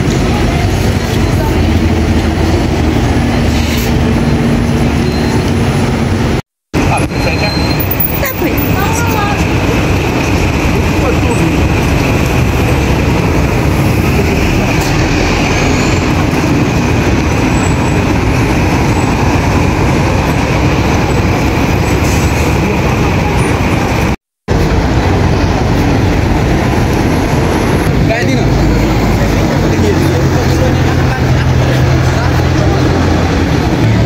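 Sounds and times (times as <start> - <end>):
buses passing close by: 0.0 - 34.0
road traffic rumble and hiss: 0.0 - 34.0.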